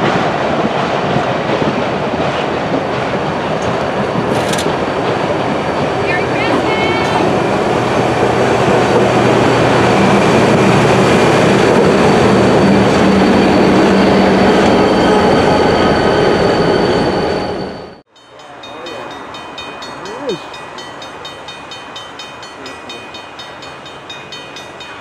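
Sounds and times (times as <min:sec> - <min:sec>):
diesel locomotive engine drone: 0:00.0 - 0:25.0
train wheels rumbling on rail: 0:00.0 - 0:25.0.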